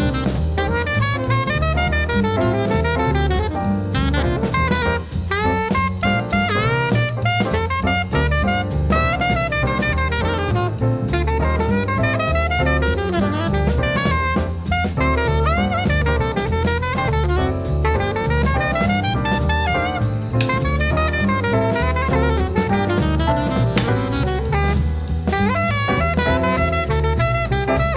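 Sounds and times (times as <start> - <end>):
drum kit with cymbal ticks: 0.0 - 27.9
saxophone melody: 0.0 - 27.9
walking bass line: 0.0 - 27.9.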